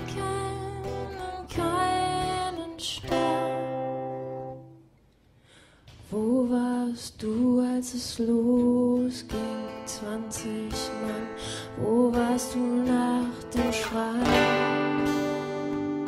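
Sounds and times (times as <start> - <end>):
woman singing: 0.0 - 4.7, 6.0 - 15.1
strummed acoustic guitar: 0.0 - 4.8, 6.2 - 16.0.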